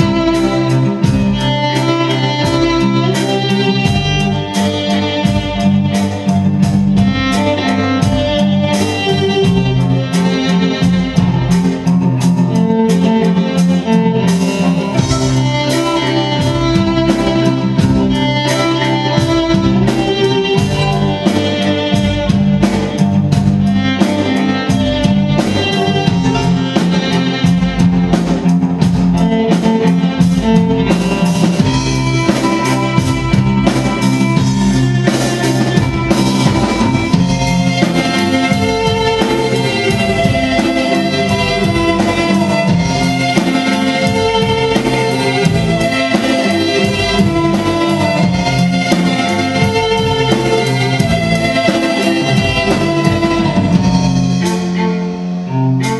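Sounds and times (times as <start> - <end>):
bowed violins: 0.0 - 55.9
steady rock drum beat: 0.0 - 55.9.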